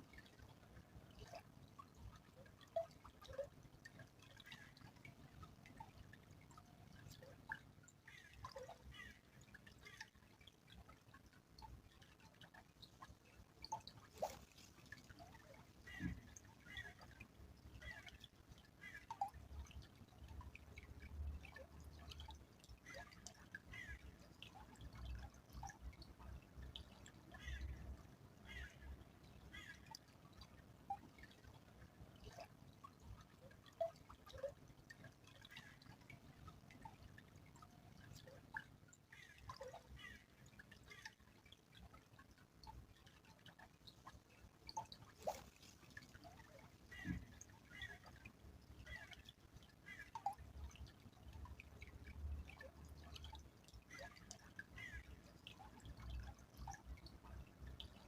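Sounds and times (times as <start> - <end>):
stream trickling faintly: 0.0 - 58.0
water drips and plops: 0.0 - 58.0.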